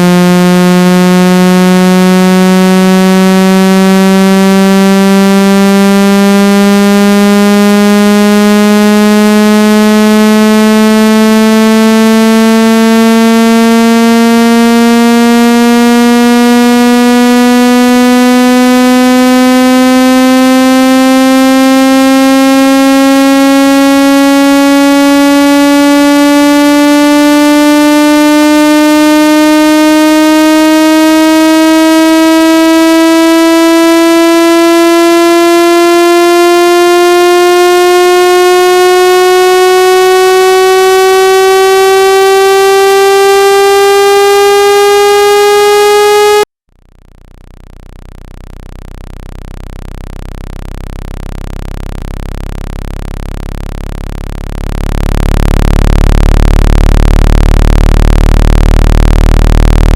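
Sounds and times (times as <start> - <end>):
buzzy tone rising in pitch: 0.0 - 59.9.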